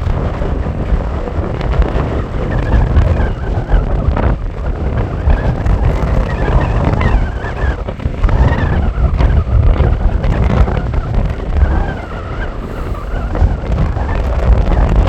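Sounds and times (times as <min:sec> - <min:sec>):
strong wind buffeting microphone: 0:00.0 - 0:15.0
wavering wind whistle: 0:00.0 - 0:15.0.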